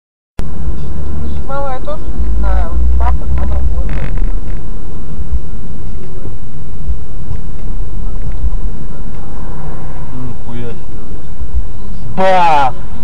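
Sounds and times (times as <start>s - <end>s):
car engine and road noise: 0.4s - 13.0s.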